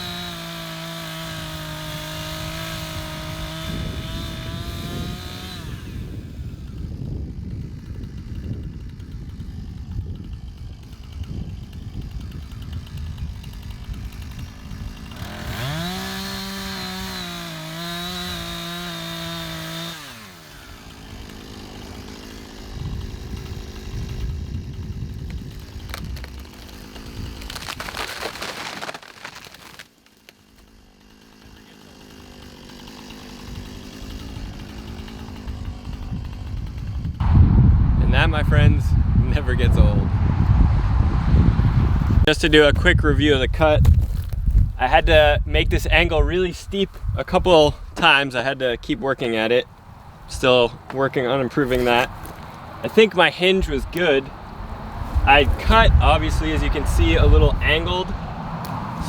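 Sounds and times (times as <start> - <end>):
chainsaw cutting at full throttle: 0.0 - 37.4, 41.3 - 59.0
low wind rumble: 0.5 - 28.4, 33.4 - 59.0.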